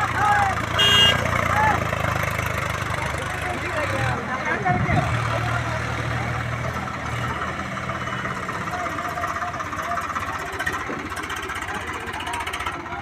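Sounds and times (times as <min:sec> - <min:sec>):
tractor diesel engine humming: 0:00.0 - 0:13.0.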